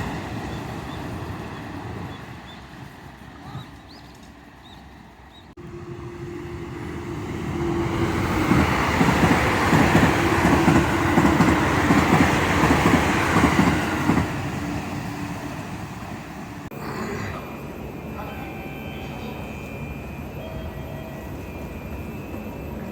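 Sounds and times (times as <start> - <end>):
electric train hum: 0.0 - 22.9.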